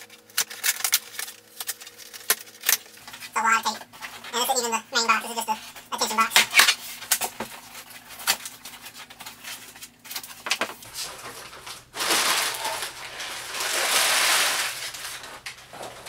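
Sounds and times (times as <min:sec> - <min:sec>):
packing paper rustling: 0:00.0 - 0:04.4, 0:05.6 - 0:16.0.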